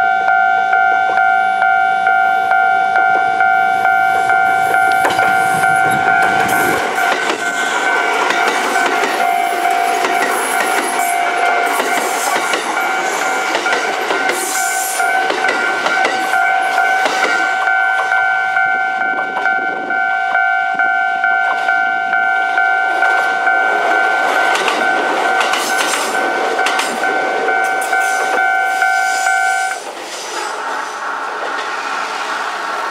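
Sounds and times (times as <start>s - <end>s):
level crossing warning bell: 0.0s - 29.8s
train rumble and wheel clatter: 0.2s - 32.9s.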